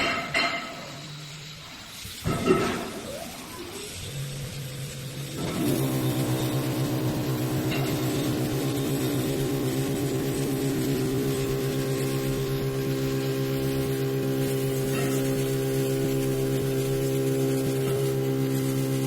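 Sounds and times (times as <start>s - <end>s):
wood lathe mechanical hum: 3.3s - 19.0s.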